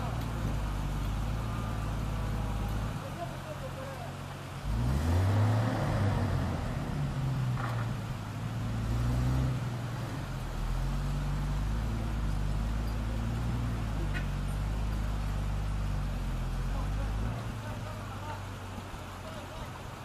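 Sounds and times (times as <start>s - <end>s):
truck engine revving: 0.0s - 19.4s
rushing river water: 0.0s - 20.0s.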